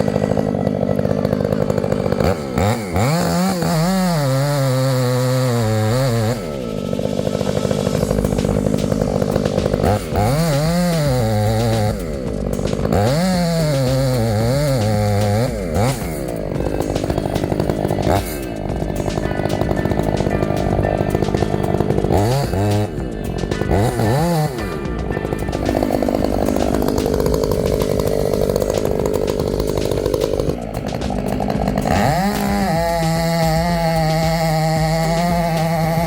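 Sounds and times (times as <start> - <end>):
chainsaw revving and cutting wood: 0.0 - 36.0.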